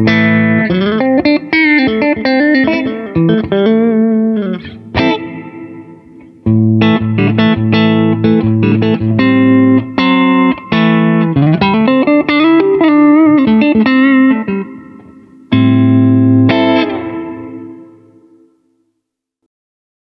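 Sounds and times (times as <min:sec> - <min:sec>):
electric guitar through amp: 0:00.0 - 0:18.6.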